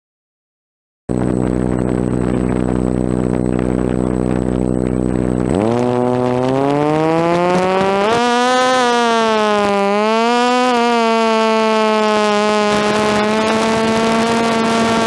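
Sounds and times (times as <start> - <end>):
quadcopter motors whirring: 1.1 - 15.0.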